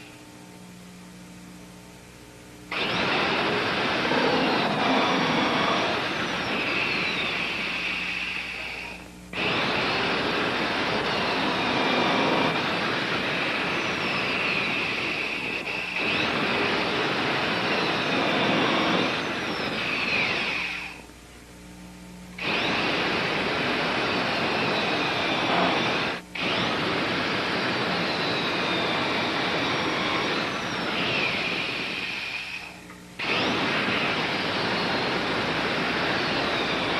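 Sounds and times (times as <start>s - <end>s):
electric drill whining: 2.7s - 21.1s, 22.4s - 36.9s.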